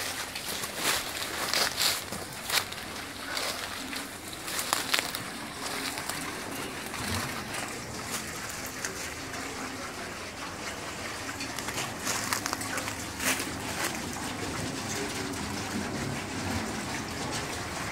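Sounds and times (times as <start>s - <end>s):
water splashing from water wheel: 0.0s - 17.9s.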